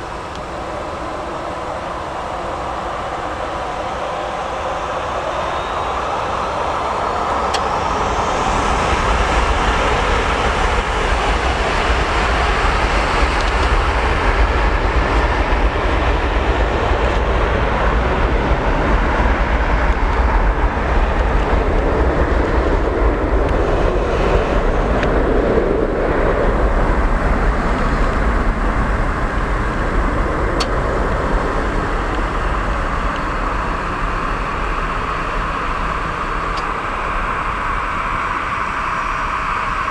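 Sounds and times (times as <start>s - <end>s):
jet engine whine: 0.0s - 39.9s
loud steady jet noise: 0.0s - 39.9s.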